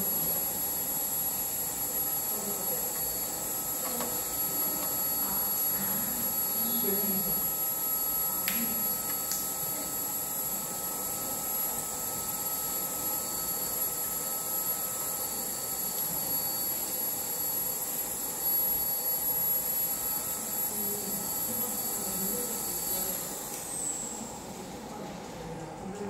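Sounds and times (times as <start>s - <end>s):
machine hum and hiss: 0.0s - 26.0s.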